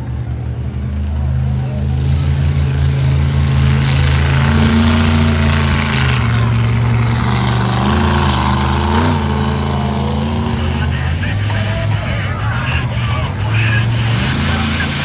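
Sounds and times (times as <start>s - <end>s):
monster truck engine running: 0.0s - 15.0s.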